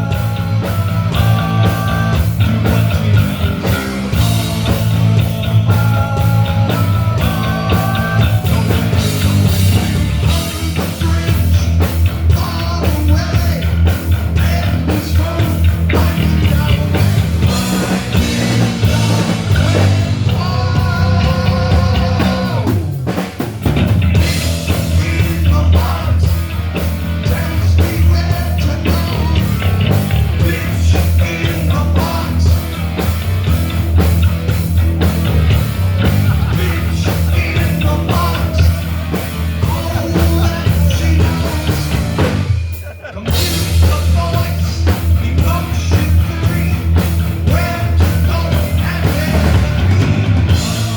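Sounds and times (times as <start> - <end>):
person singing: 0.0 - 23.0, 24.6 - 26.4, 27.2 - 32.7, 36.0 - 50.9
guitar: 0.0 - 50.9
loud rock music: 0.0 - 50.9
steady drum beat: 0.0 - 50.9.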